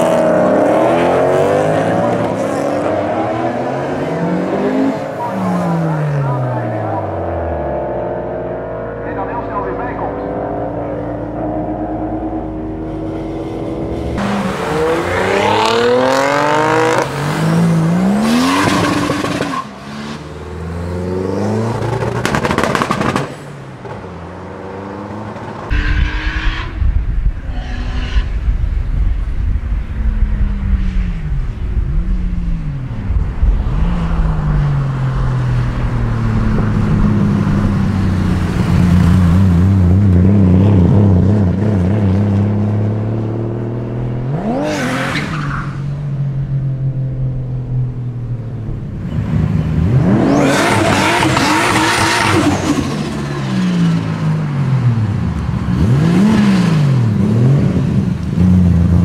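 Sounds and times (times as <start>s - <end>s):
car engine revving: 0.0s - 55.0s, 55.6s - 59.0s.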